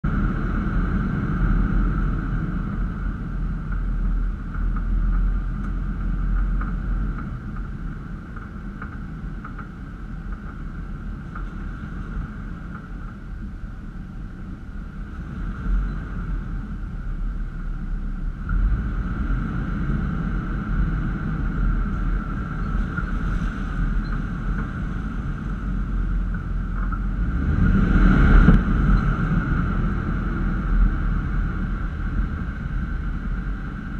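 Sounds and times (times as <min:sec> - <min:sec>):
engine and tyre rumble: 0:00.0 - 0:33.9.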